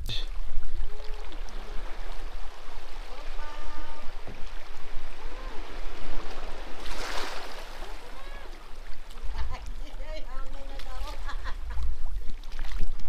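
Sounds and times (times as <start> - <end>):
moving water: 0.0 - 13.0.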